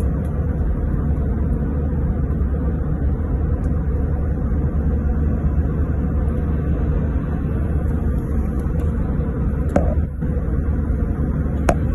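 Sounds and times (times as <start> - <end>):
airliner engine and airflow rumble: 0.0 - 11.9
faint steady hum: 0.0 - 11.9.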